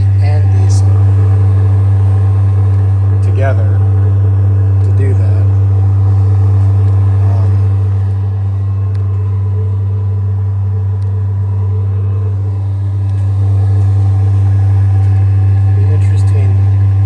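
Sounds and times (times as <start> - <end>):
heater blower droning: 0.0 - 17.0.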